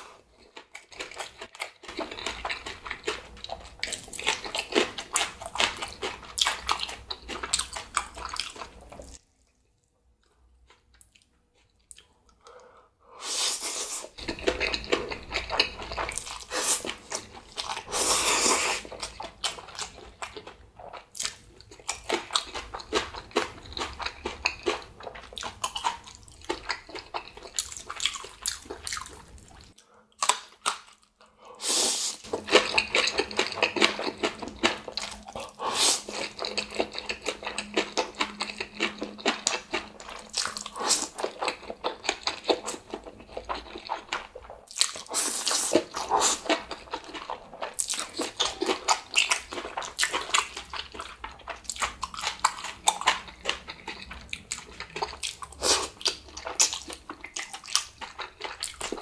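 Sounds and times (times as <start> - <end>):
chewing noodles and kimchi: 0.0 - 12.8, 13.6 - 59.0.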